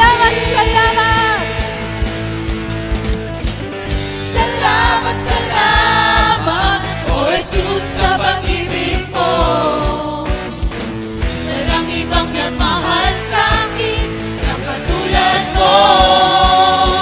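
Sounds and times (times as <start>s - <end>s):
voices singing worship song: 0.0s - 2.1s, 4.2s - 17.0s
steady drum beat: 0.0s - 17.0s.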